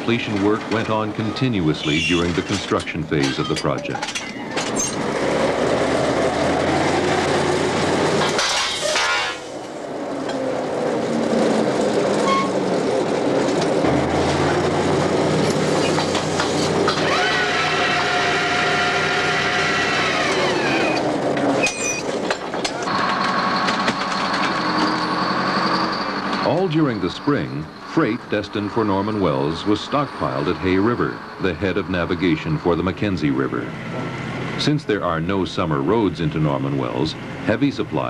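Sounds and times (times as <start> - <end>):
heavy drilling machinery din: 0.0 - 37.9
high machine whine: 1.1 - 37.8.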